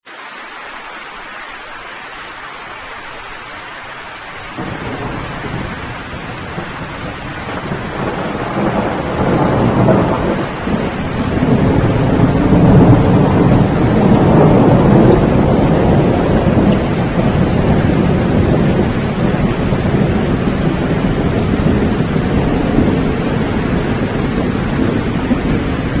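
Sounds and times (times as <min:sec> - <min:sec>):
steady rain: 0:00.0 - 0:26.0
rolling thunder rumble: 0:04.5 - 0:26.0.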